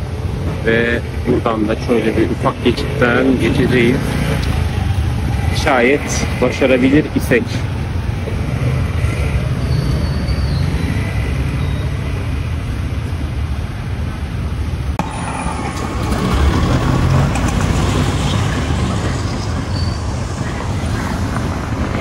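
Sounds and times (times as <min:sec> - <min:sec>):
low rumble of street noise: 0:00.0 - 0:22.0.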